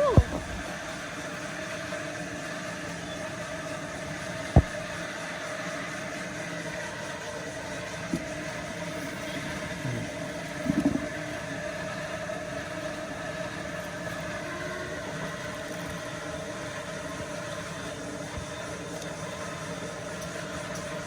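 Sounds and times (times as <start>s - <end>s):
steady motor hum: 0.0s - 21.0s.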